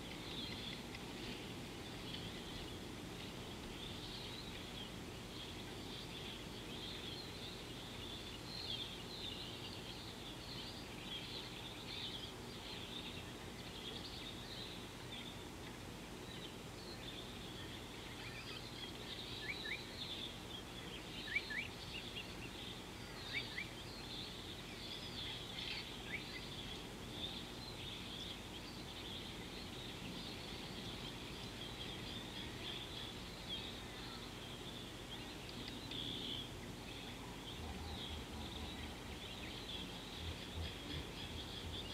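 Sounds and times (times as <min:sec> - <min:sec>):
low steady hiss: 0:00.0 - 0:41.9
small birds chirping: 0:00.0 - 0:41.9.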